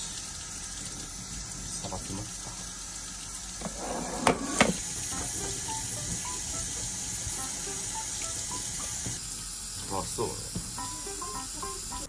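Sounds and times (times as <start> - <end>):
tap water running into a sink: 0.0 - 12.0.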